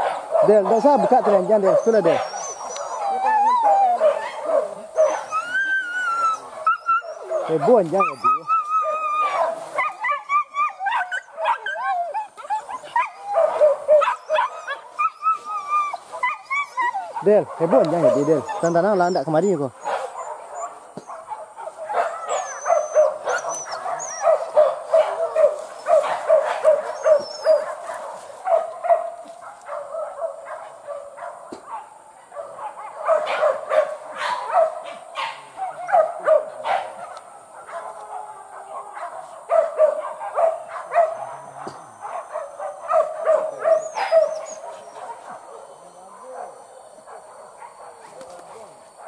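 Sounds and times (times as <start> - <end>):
dogs barking and yelping: 0.0 - 49.0.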